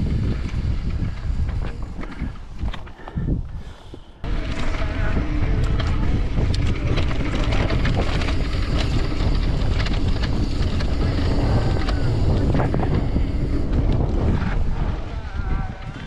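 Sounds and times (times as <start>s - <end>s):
bike rattling clicks: 0.0s - 15.1s
wind buffeting microphone: 0.0s - 16.0s.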